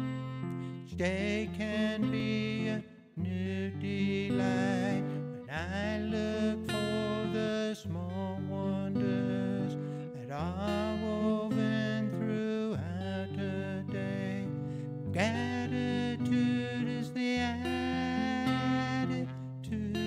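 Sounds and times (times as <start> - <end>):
fingerpicked acoustic guitar: 0.0 - 20.0
man singing: 0.0 - 20.0.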